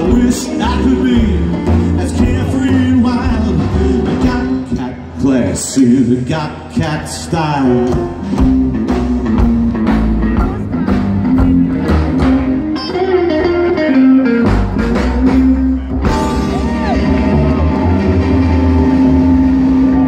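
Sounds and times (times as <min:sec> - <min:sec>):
crowd noise: 0:00.0 - 0:20.0
rockabilly band playing: 0:00.0 - 0:20.0.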